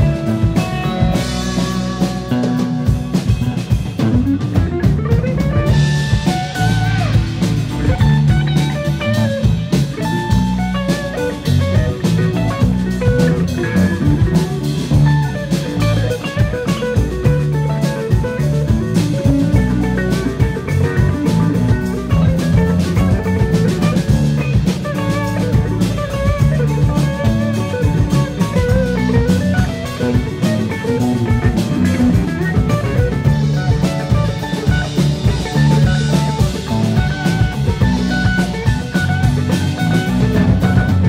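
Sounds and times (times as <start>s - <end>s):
bass guitar: 0.0s - 41.0s
drum kit: 0.0s - 41.0s
lead guitar: 0.0s - 41.0s.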